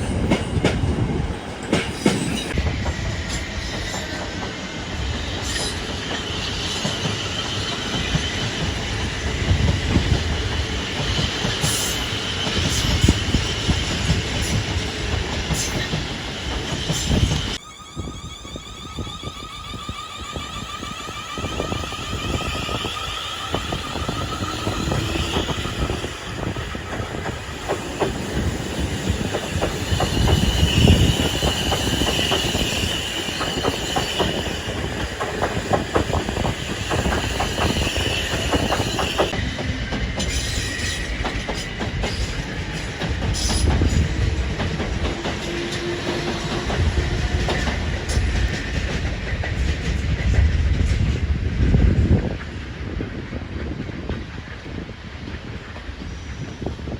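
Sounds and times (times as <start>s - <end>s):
train wheels squealing: 0.0s - 50.0s
train wheels clattering over rail joints: 0.1s - 17.6s, 21.6s - 51.4s.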